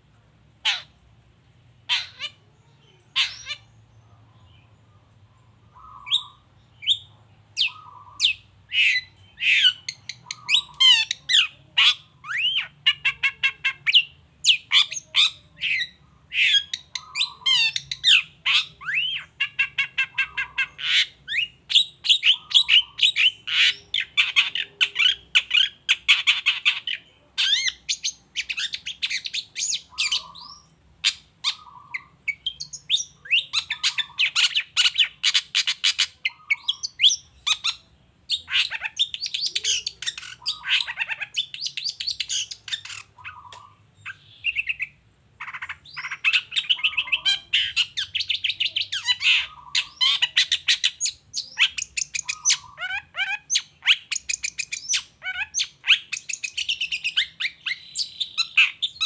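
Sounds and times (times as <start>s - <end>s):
bird calling and singing: 0.6s - 1.0s, 1.8s - 59.0s.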